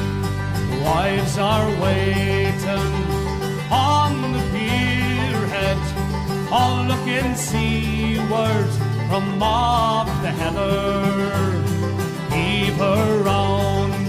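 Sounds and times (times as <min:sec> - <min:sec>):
country music with plucked strings: 0:00.0 - 0:14.0.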